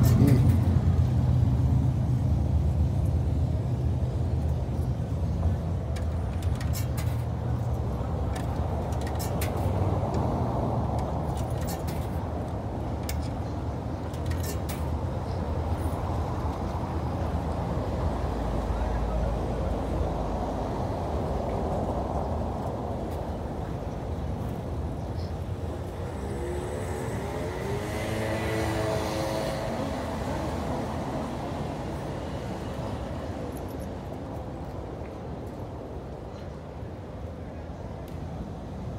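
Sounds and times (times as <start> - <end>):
engine hum: 0.0 - 35.7
city traffic rumble: 0.0 - 38.9.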